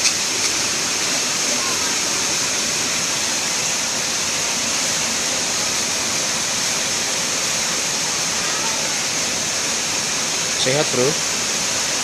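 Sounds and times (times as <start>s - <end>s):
rushing noise with high hiss: 0.0s - 12.0s.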